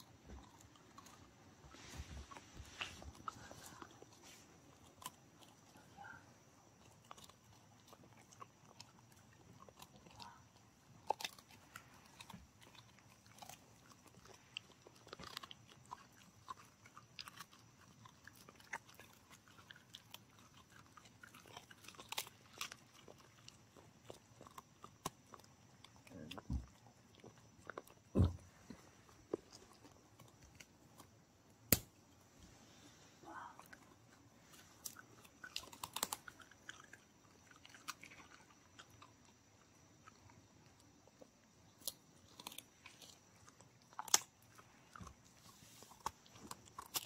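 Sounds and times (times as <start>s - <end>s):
dog crunching a hard treat: 0.0s - 31.8s, 34.5s - 47.0s.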